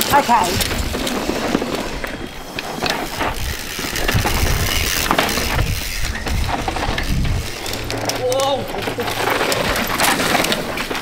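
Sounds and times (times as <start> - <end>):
bike tyres sliding through dirt: 0.0 - 11.0
bikes clicking and rattling: 0.0 - 11.0.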